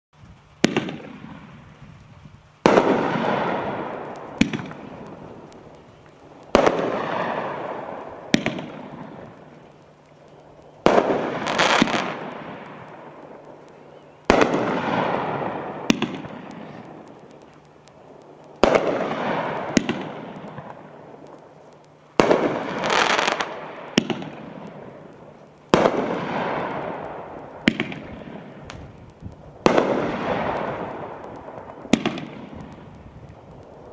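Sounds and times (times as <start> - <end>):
firework crackle: 0.2 - 33.9
firework bangs: 0.6 - 1.8, 2.6 - 9.7, 10.8 - 33.9
small sharp cracks: 2.7 - 33.9.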